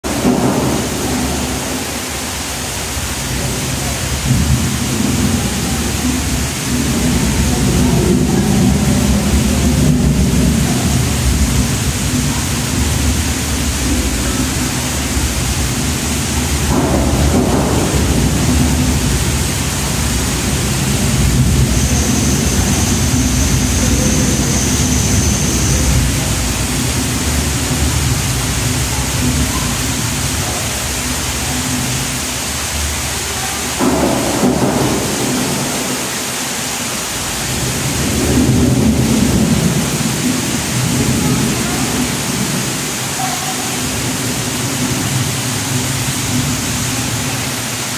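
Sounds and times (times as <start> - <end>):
rushing water: 0.0 - 47.9.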